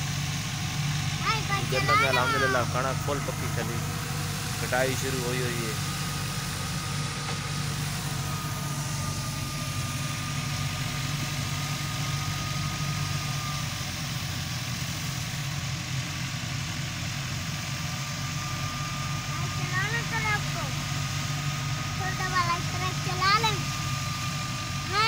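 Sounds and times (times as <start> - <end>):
thin steady whine: 0.0 - 25.0
tractor diesel engine running: 0.0 - 25.0.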